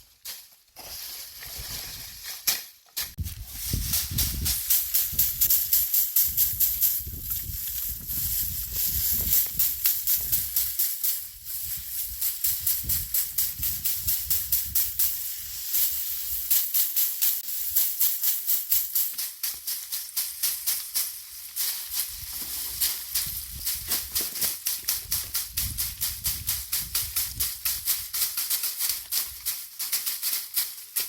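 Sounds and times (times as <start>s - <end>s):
plants being threshed: 0.0s - 31.0s
seeds rattling hiss: 0.0s - 31.0s.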